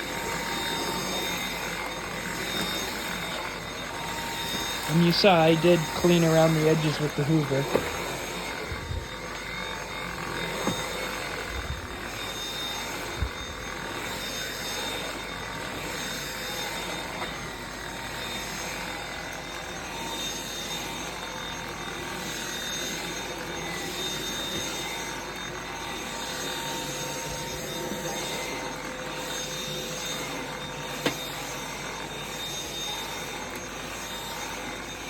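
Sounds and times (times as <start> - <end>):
vacuum cleaner motor whine: 0.0 - 35.0.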